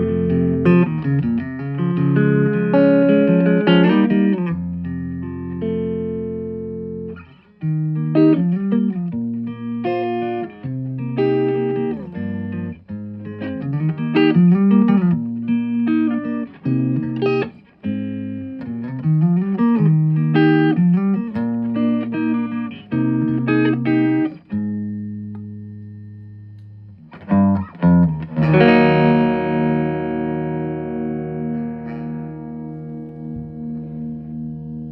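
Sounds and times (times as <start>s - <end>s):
electric guitar chord ringing: 0.0s - 34.9s
electric guitar single notes: 0.0s - 34.9s.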